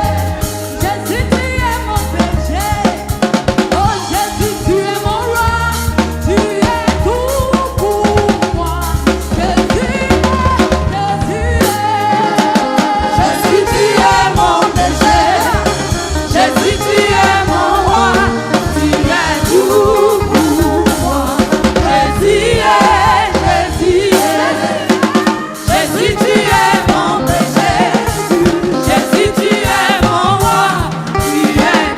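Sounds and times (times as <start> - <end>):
bass: 0.0 - 31.9
choir singing gospel music: 0.0 - 31.9
drum kit: 0.0 - 31.9.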